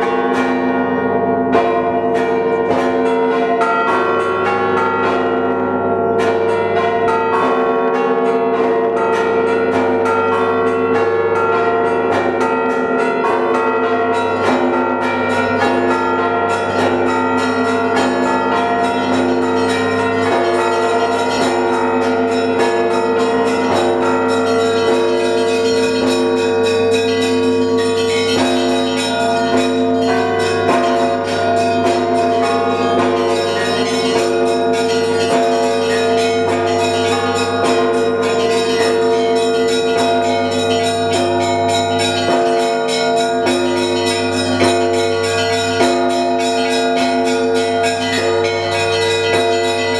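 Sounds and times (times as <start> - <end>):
large bells humming: 0.0 - 49.9
small bells struck quickly: 8.5 - 49.9.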